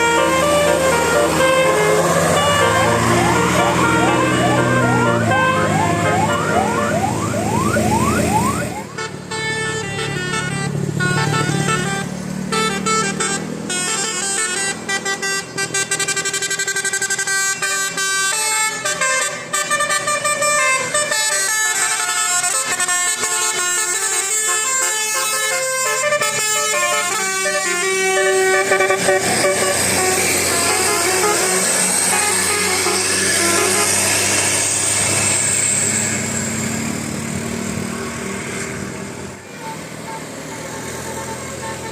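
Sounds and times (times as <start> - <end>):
multi-tone bus horn playing a tune: 0.0 - 36.2, 39.4 - 41.9.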